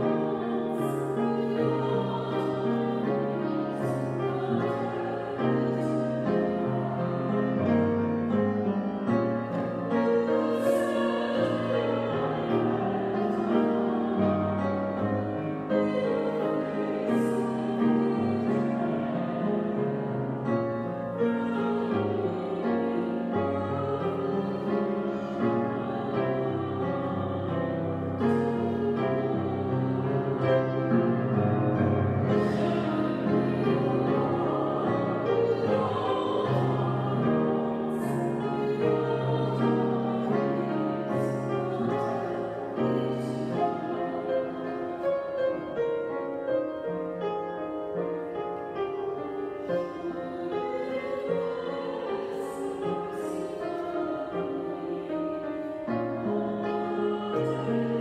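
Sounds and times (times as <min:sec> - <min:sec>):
hymn singing: 0:00.0 - 0:58.0
piano accompaniment: 0:00.0 - 0:58.0.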